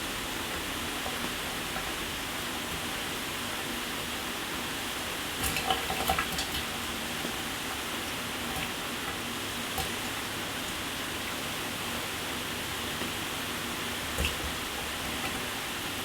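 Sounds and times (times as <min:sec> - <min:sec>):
shower running: 0:00.0 - 0:16.0.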